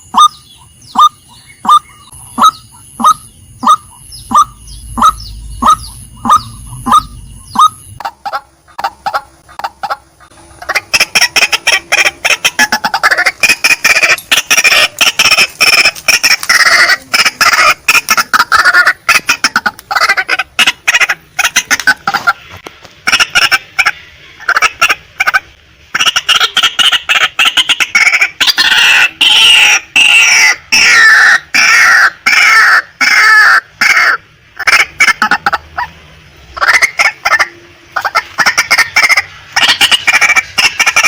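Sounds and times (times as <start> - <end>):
bird calling sharp notes: 0.0 - 36.0, 36.6 - 41.0
bird chattering calls: 0.0 - 36.0, 36.6 - 41.0.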